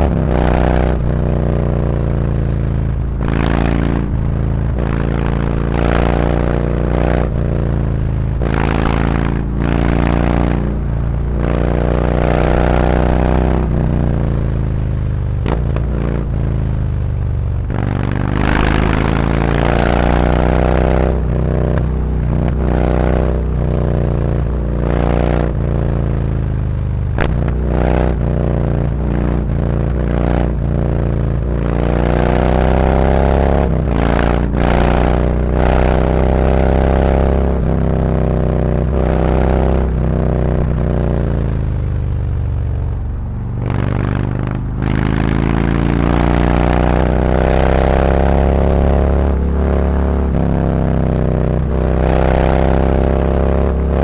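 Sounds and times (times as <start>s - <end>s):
motorcycle accelerating through gears: 0.0s - 54.0s.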